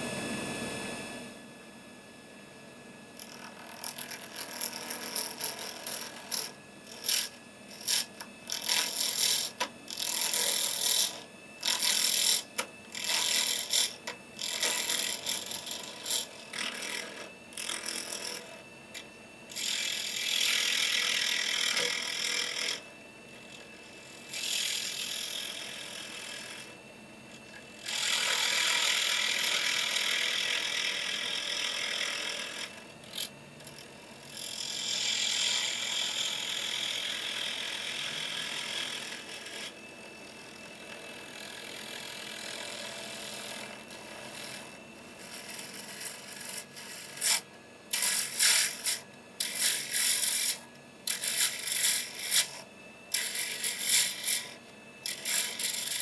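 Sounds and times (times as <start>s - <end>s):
lathe tool cutting wood: 3.2s - 18.6s, 19.5s - 22.8s, 23.5s - 26.7s, 27.8s - 56.0s.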